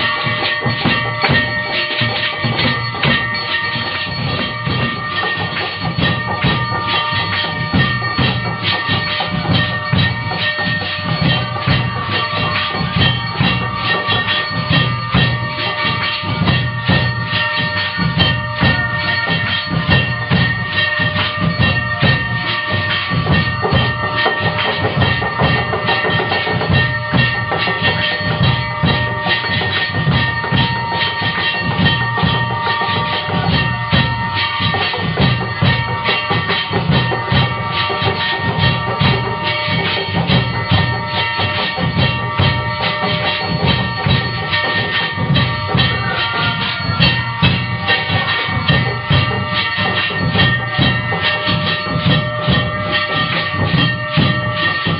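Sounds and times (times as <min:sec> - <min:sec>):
bells ringing: 0:00.0 - 0:54.9
fast steady drumming: 0:00.0 - 0:54.9.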